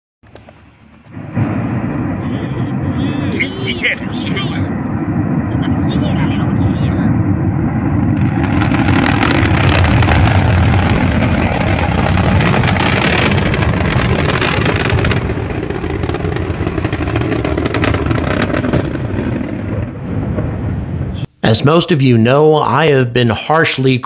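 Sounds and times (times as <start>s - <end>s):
crackling rocket roar: 0.2s - 22.2s.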